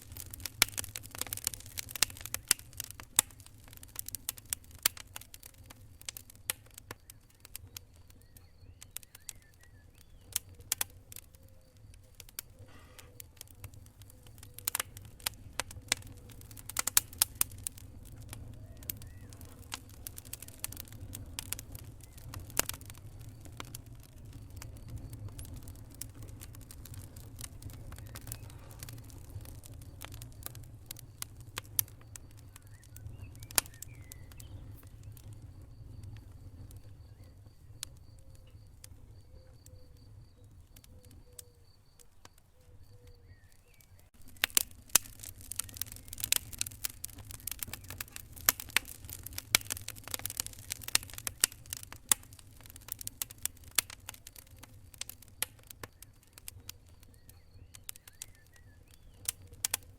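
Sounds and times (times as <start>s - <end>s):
fire crackling and popping: 0.0s - 59.9s
wood fire rumbling: 0.0s - 59.9s.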